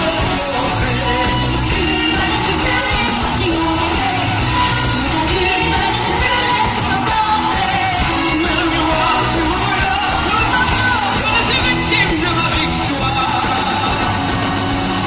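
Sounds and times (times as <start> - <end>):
band with drums: 0.0 - 15.0
person singing live: 0.0 - 15.0.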